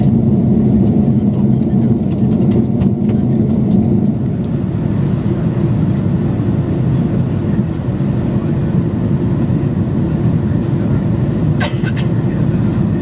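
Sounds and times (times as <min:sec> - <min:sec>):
aircraft cabin roar: 0:00.0 - 0:13.0.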